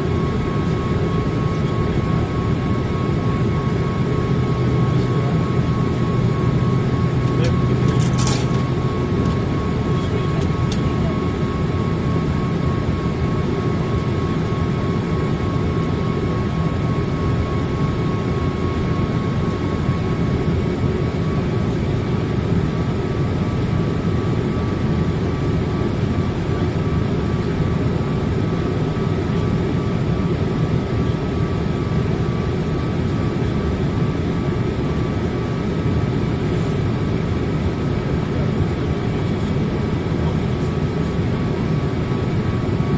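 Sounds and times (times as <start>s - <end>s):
jet engine and airflow rush: 0.0s - 42.9s.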